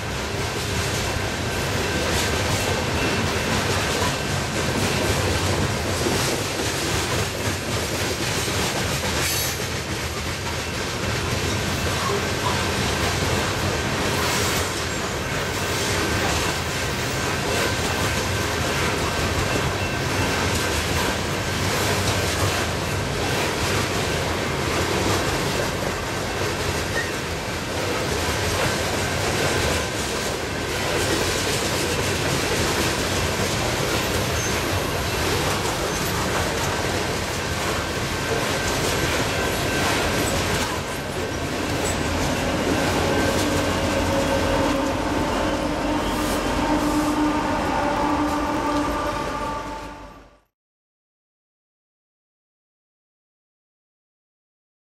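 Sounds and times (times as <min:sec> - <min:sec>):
steel wheels on rail: 0:00.0 - 0:50.3.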